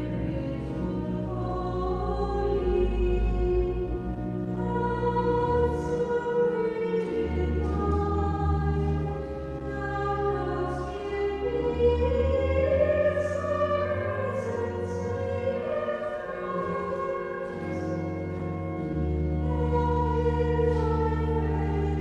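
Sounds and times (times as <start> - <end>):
choir singing sacred music: 0.0 - 22.0.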